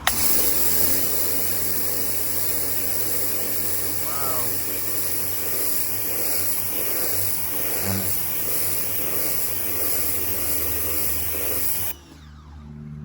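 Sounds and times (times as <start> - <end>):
pressure washer motor humming: 0.0 - 12.0
water jet hissing: 0.0 - 12.0.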